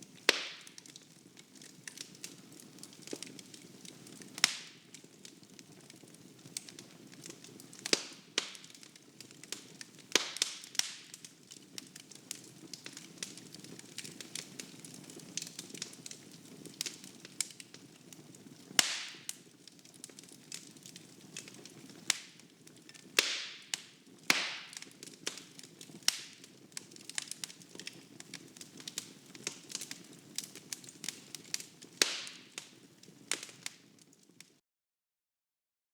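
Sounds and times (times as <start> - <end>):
wood fire crackling: 0.0 - 34.5.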